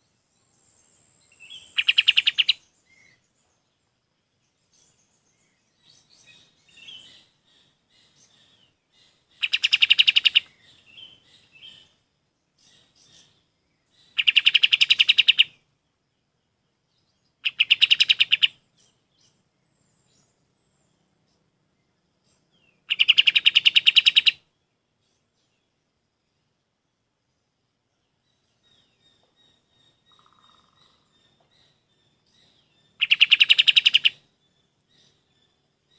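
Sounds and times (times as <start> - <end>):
bird singing rapid trills: 0.0 - 25.9, 28.0 - 35.9
soft bird chirps: 0.0 - 35.9.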